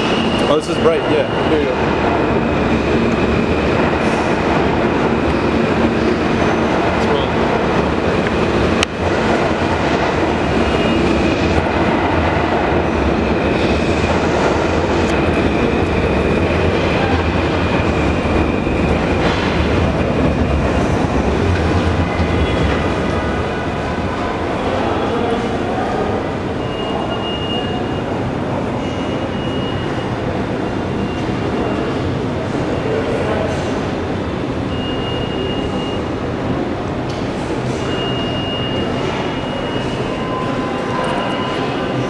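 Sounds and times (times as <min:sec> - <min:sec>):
subway train rumbling: 0:00.0 - 0:42.0.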